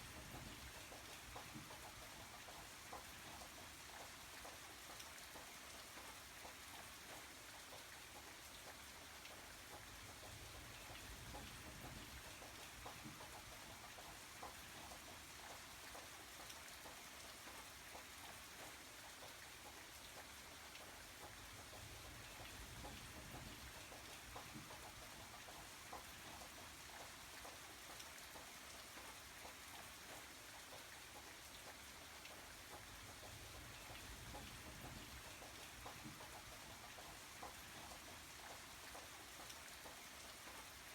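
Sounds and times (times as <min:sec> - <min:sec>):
light rain: 0:00.0 - 0:40.9.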